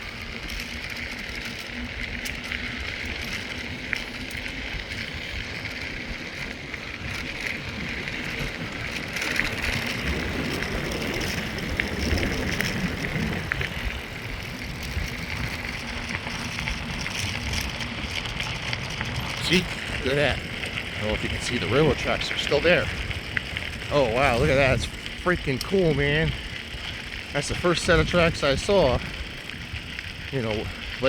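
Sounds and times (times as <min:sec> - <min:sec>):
bike tyres crunching on trail: 0:00.0 - 0:31.0
small clicks and rattles: 0:00.0 - 0:31.0
wind rumble on microphone: 0:00.0 - 0:31.0.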